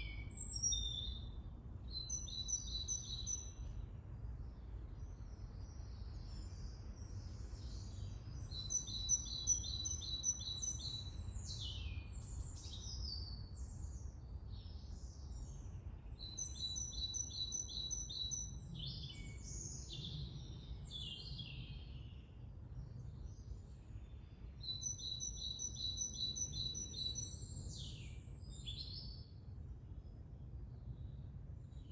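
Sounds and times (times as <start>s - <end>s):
songbird singing: 0.0s - 31.9s.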